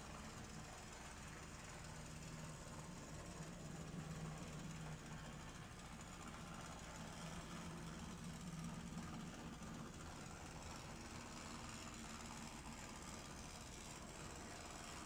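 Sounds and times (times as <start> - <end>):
model train motor humming: 0.0 - 15.0.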